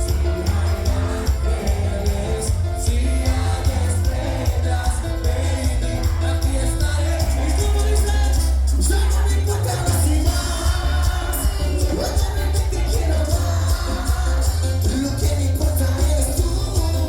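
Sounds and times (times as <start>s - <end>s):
live band playing: 0.0s - 17.0s
person singing: 0.0s - 17.0s.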